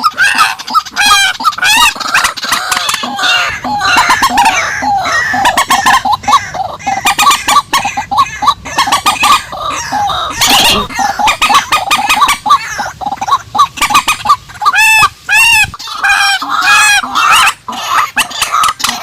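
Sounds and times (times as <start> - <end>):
bird squawk: 0.0 - 19.0
birds harsh clucking calls: 0.0 - 19.0.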